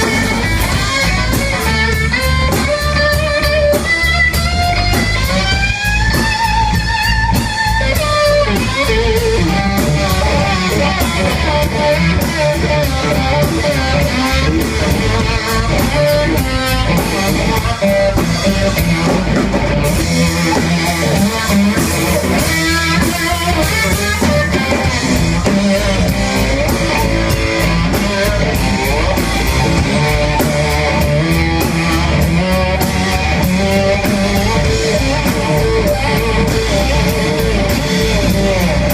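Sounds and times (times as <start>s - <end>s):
bass: 0.0s - 38.9s
drum kit: 0.0s - 38.9s
electric guitar lead line: 0.0s - 38.9s.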